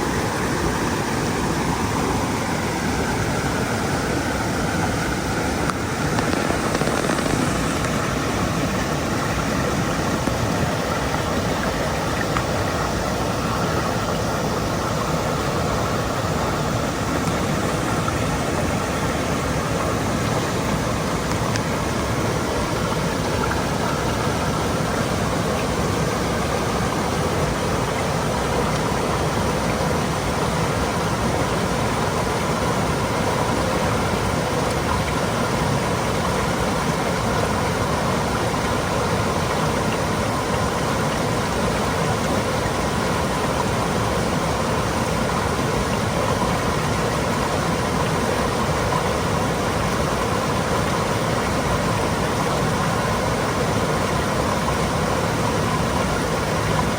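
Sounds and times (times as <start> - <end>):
stream babbling over rocks: 0.0 - 56.9.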